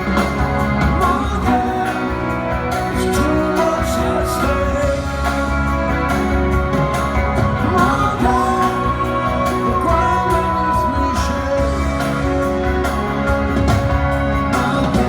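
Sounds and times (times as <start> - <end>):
person singing: 0.0 - 6.3, 7.5 - 12.7, 14.4 - 15.0
live rock band playing: 0.0 - 15.0.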